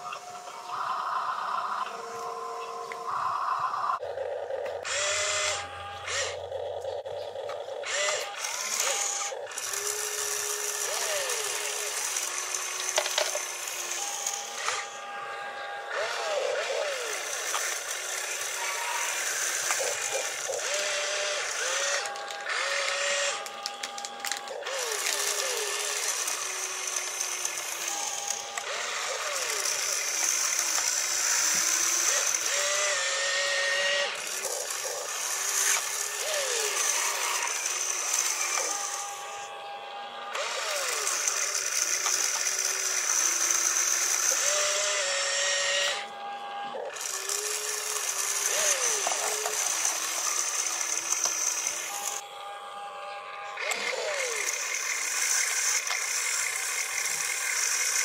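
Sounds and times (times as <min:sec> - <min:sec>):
electric motors and gears whining: 0:00.0 - 0:58.0.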